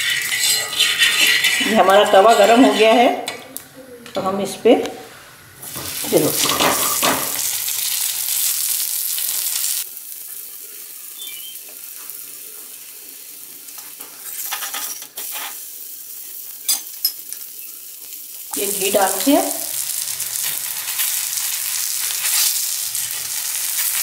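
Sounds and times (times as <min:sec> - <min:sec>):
flatbread sizzling in oil: 0:00.0 - 0:02.9, 0:05.1 - 0:24.0.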